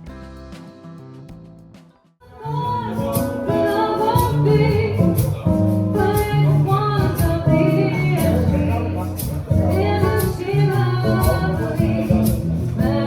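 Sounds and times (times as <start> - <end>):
song with singing over beat: 2.2 - 13.0.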